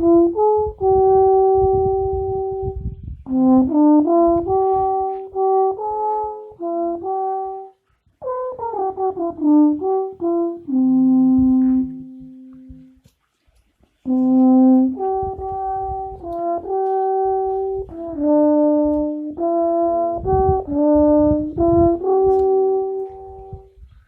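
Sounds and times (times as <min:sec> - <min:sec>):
alphorn playing slow melody: 0:03.3 - 0:13.0, 0:14.1 - 0:23.7.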